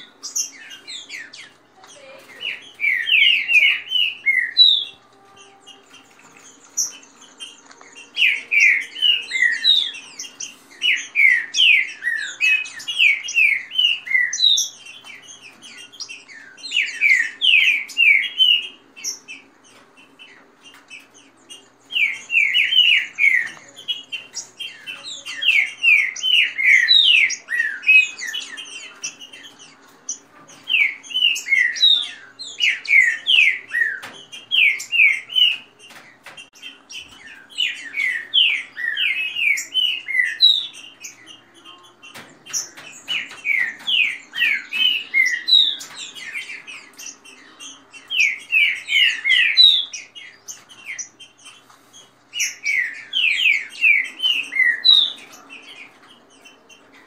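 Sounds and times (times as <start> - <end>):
birds singing sharp whistles: 0.0 - 57.0.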